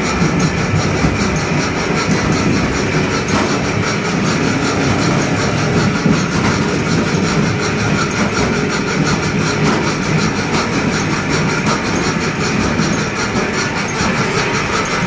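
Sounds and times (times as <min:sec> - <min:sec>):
machine rumble and clatter: 0:00.0 - 0:15.0.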